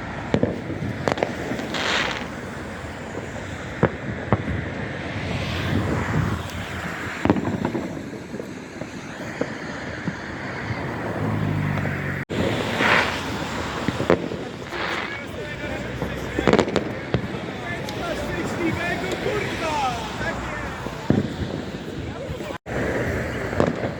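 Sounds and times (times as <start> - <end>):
distant fireworks bangs: 0.0 - 23.9
outdoor rushing noise: 0.0 - 23.9
hissing swells: 1.0 - 23.9.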